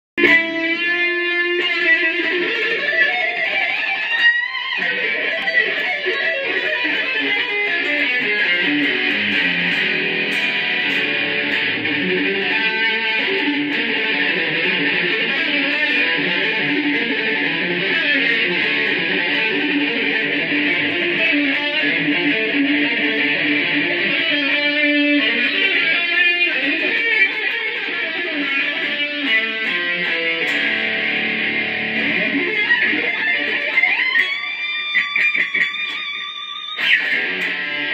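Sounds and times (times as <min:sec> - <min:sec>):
electric guitar through amplifier: 0:00.2 - 0:37.9.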